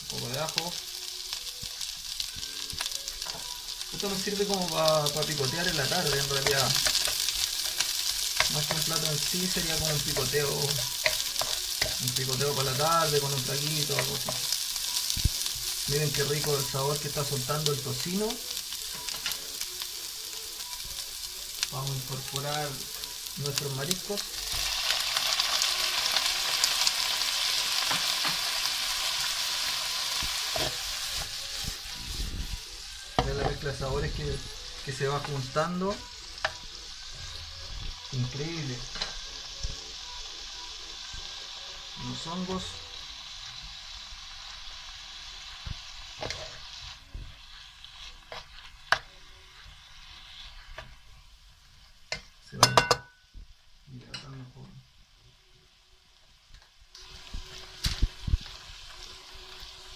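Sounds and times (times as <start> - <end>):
seafood sizzling in a frying pan: 0.0 - 59.9.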